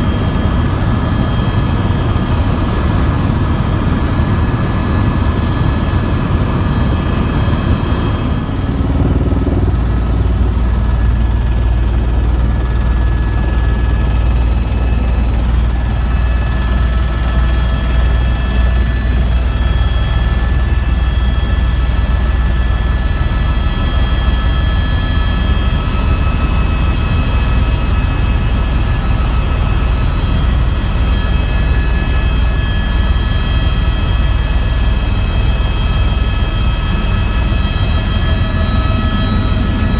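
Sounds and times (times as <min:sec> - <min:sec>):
helicopter high whine: 0:00.0 - 0:39.9
helicopter rotor rumble: 0:00.0 - 0:39.9.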